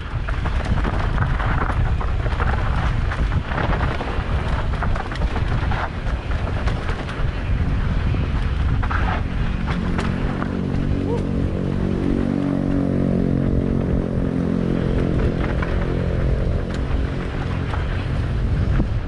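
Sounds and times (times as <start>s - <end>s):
bike clicks and rattles: 0.0s - 19.0s
wind buffeting microphone: 0.0s - 19.0s.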